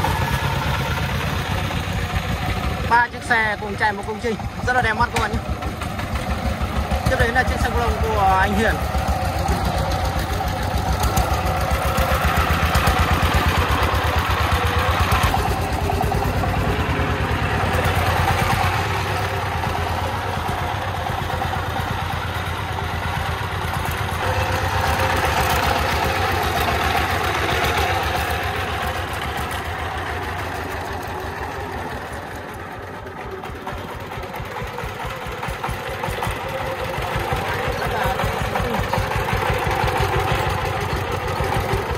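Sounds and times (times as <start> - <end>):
diesel engine chugging: 0.0 - 41.9.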